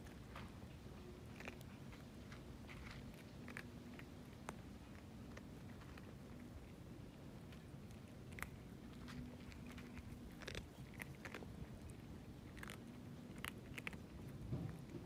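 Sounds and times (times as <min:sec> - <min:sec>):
kittens crunching food: 0:00.0 - 0:15.0.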